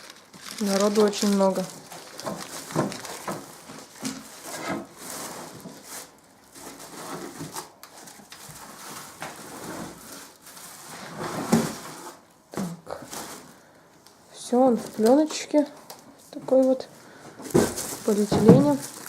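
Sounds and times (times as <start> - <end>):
cardboard and plastic rustling: 0.0 - 13.8, 14.4 - 19.0.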